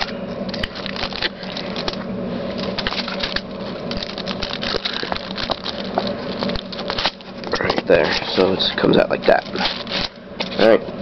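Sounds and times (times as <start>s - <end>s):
hands crinkling tin foil: 0.6s - 10.8s.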